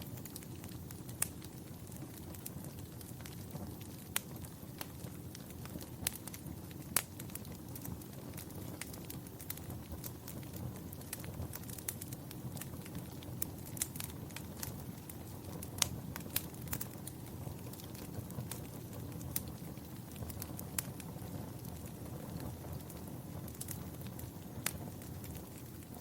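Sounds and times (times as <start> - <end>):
fire pops and snaps: 0.0 - 26.0
rumble of flames: 0.0 - 26.0.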